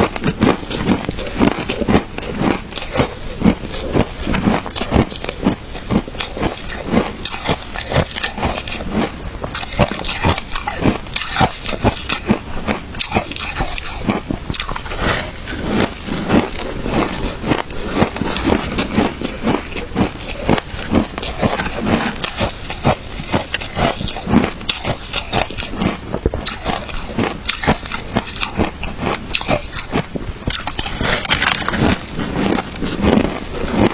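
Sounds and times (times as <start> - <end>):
chewing and crunching shaved ice: 0.0 - 33.9.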